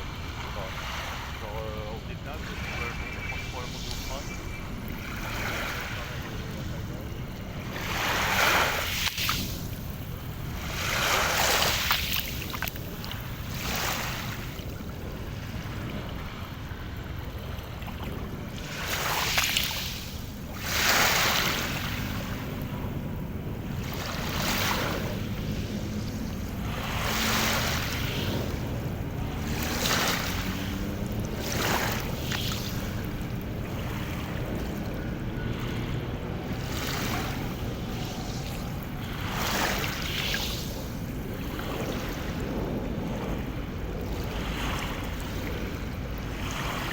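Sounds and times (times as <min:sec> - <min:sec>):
sea waves washing in: 0:00.0 - 0:46.9
wind rumble on microphone: 0:00.0 - 0:46.9.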